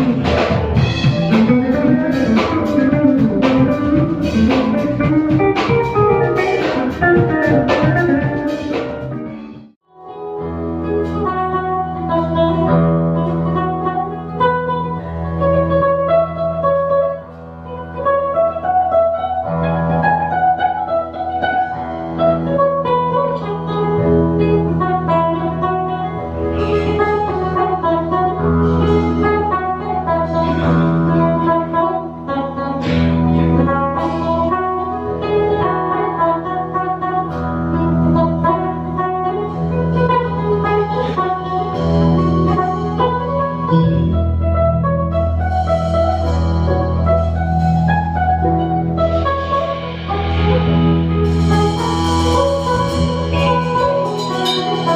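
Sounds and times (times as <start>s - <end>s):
bass notes: 0.0s - 54.9s
guitar: 0.0s - 54.9s
live jazz band: 0.0s - 54.9s.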